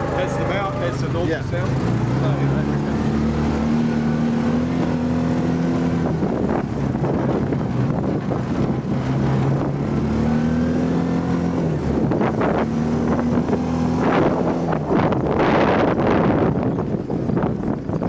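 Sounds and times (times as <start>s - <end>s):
utility vehicle engine running: 0.0s - 18.0s.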